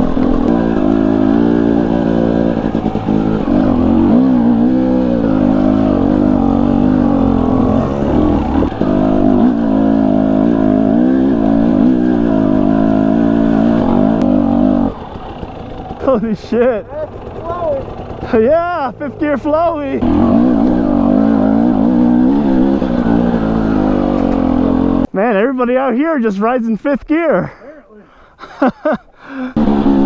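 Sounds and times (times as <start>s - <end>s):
dirt bike engine revving: 0.0s - 25.1s, 29.5s - 30.0s.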